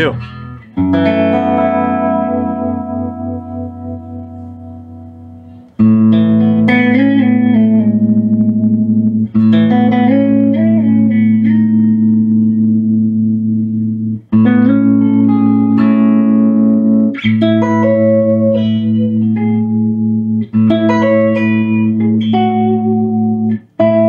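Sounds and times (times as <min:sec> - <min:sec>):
electric guitar chords with tremolo: 0:00.0 - 0:24.0.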